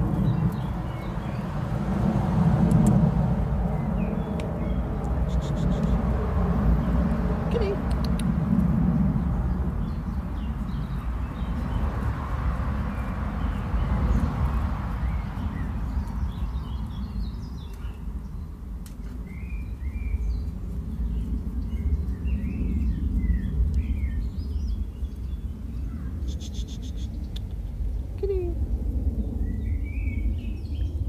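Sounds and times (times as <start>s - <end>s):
small birds chirping: 0.0s - 1.8s, 2.6s - 31.0s
low outdoor rumble: 0.0s - 31.0s.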